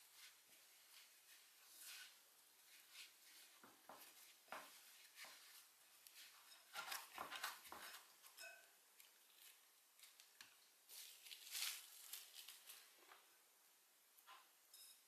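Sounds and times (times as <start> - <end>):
hands kneading dough: 0.0 - 13.2.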